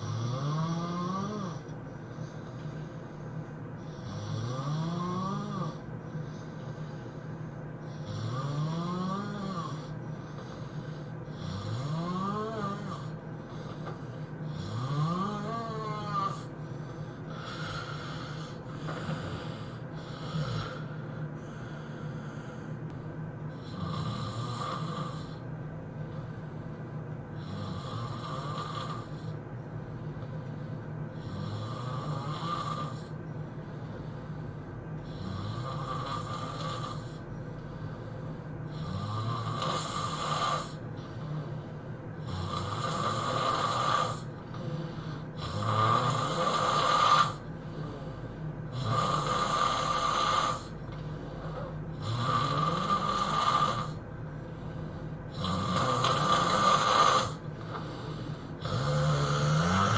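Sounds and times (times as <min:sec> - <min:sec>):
person snoring: 0:00.0 - 0:02.9, 0:03.8 - 0:07.2, 0:07.8 - 0:22.9, 0:23.5 - 0:25.5, 0:27.4 - 0:29.4, 0:31.1 - 0:59.9.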